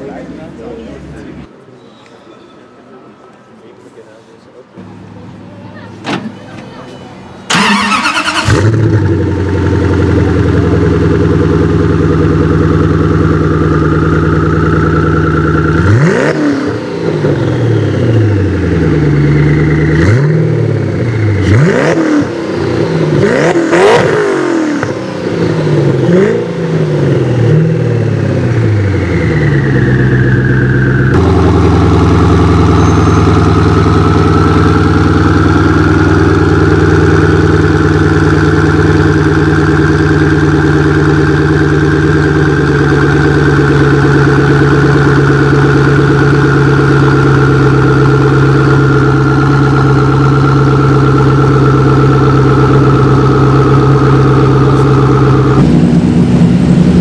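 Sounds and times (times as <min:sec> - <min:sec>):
car engine idling and revving: 0:07.5 - 0:57.0.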